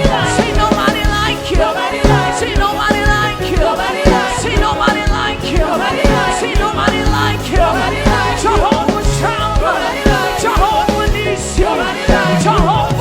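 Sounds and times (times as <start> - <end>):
live band praise music: 0.0 - 13.0
steady drum beat: 0.0 - 13.0.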